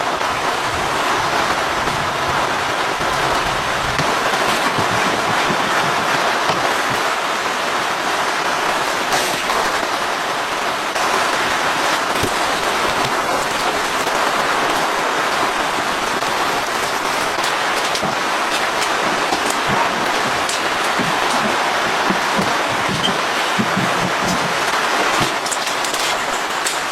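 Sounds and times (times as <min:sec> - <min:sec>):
rain drops pattering: 0:00.0 - 0:26.9.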